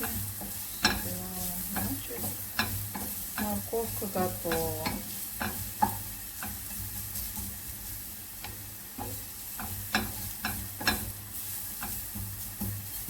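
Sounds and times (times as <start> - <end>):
utensil clicking against pan: 0.0 - 7.8, 8.4 - 13.0
carrot sizzling in oil: 0.0 - 13.0.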